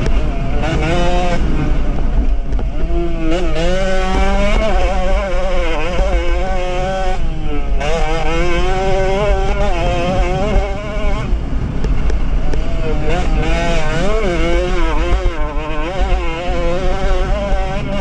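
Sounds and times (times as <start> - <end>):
two-stroke motorcycle engine revving: 0.0 - 18.0
wind rumble on microphone: 0.0 - 18.0.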